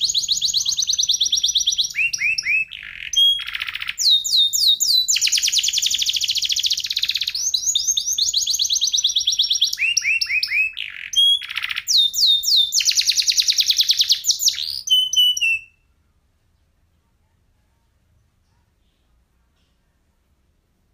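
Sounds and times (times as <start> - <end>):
canary singing trills: 0.0 - 16.8.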